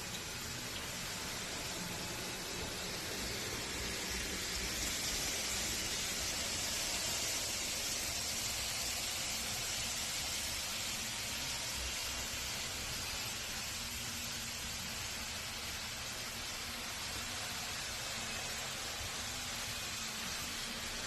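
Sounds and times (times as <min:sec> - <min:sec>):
model trains running: 0:00.0 - 0:21.0.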